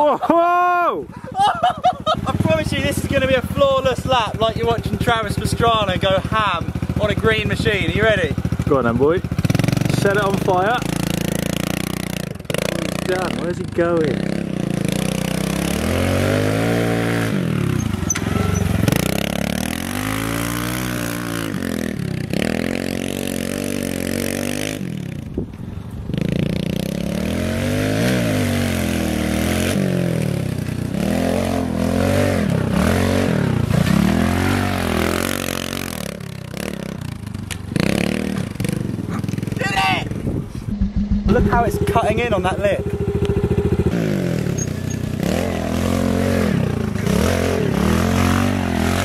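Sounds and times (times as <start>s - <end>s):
motorbike engine revving: 1.8s - 25.2s, 26.1s - 39.6s, 40.2s - 49.0s.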